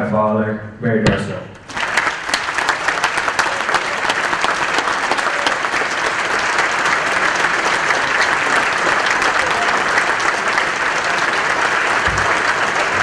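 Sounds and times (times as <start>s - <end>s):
audience applauding: 1.6s - 13.0s.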